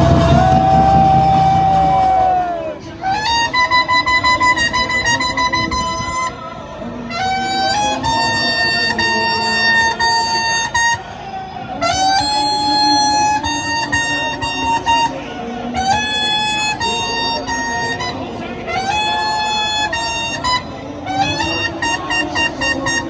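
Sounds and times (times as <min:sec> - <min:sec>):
nasal wind instrument: 0:00.0 - 0:23.0.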